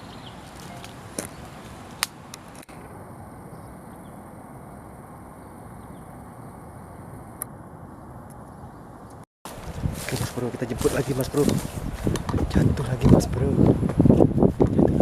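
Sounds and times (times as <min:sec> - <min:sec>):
strong wind rushing: 0:01.0 - 0:15.0.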